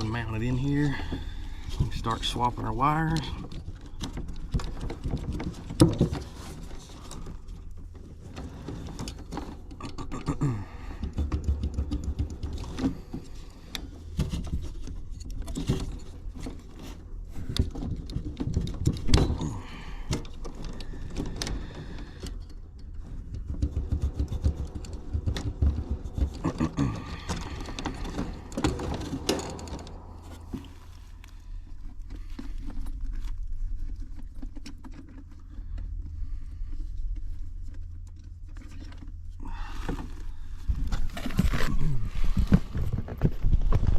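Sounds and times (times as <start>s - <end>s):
clicks and metallic rattles: 0.0s - 35.9s
rustling of wires and tools: 0.0s - 43.9s
steady low hum: 0.0s - 43.9s.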